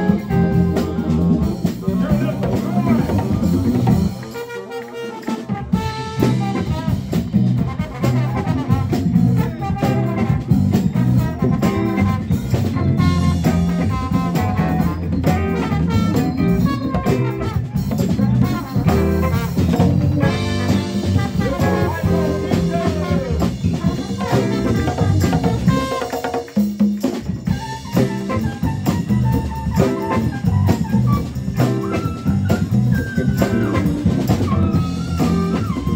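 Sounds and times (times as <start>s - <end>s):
horn section: 0.0s - 26.5s, 27.4s - 35.9s
congas: 0.0s - 35.9s
live band playing: 0.0s - 35.9s.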